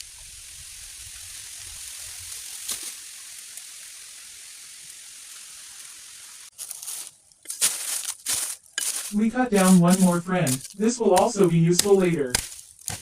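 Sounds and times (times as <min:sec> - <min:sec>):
high-pitched outdoor hiss: 0:00.0 - 0:07.0, 0:07.6 - 0:13.0.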